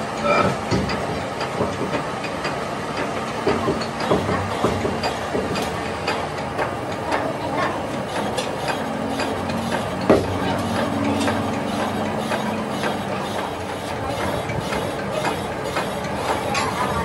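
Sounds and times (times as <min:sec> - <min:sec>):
lathe machine whir: 0:00.0 - 0:17.0.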